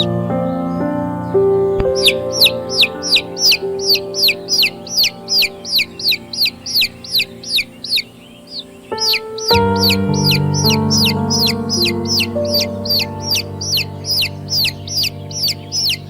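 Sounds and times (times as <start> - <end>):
chicks peeping: 0.0 - 0.8, 1.8 - 16.0
soft sustained music chords: 0.0 - 16.0.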